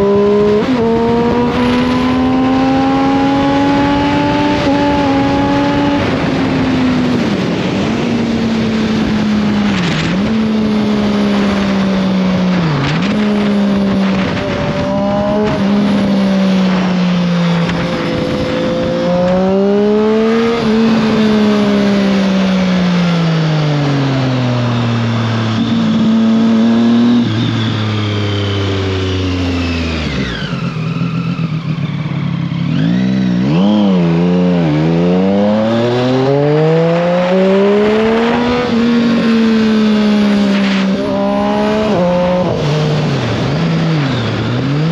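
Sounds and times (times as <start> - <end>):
motorcycle engine under way: 0.0 - 44.9.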